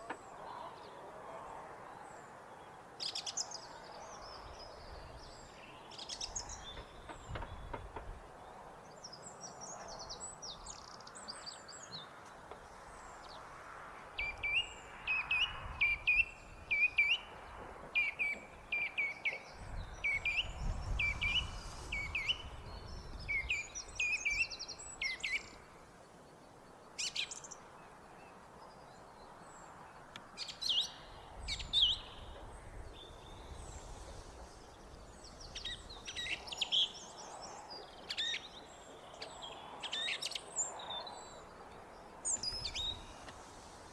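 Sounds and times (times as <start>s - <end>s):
song thrush singing: 2.1s - 13.5s, 14.1s - 43.9s.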